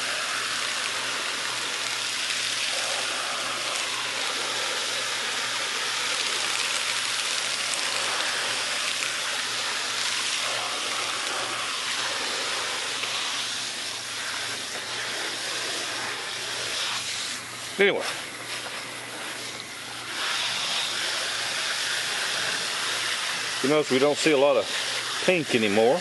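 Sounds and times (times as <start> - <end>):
hose nozzle spraying water: 0.0 - 26.0.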